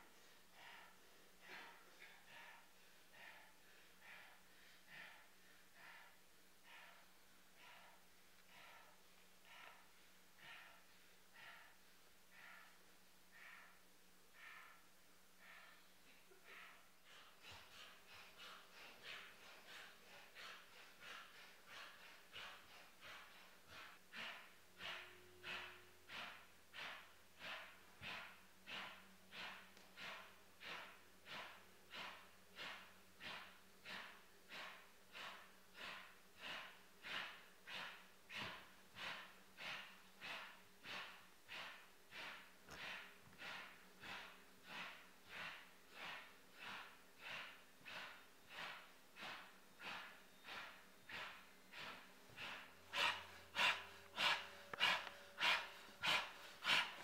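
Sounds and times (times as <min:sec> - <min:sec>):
people panting heavily: 0:00.0 - 0:57.0.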